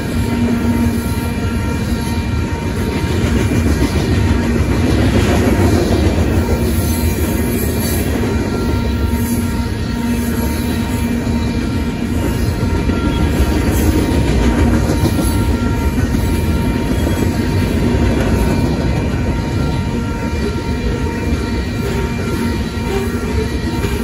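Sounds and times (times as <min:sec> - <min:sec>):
steel train wheels on rail: 0:00.0 - 0:24.0.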